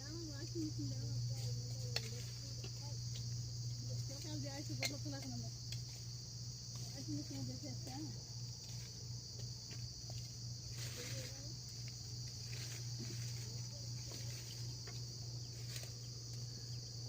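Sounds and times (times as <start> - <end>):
high-pitched insect chorus: 0.0 - 17.0
steady low hum: 0.0 - 17.0.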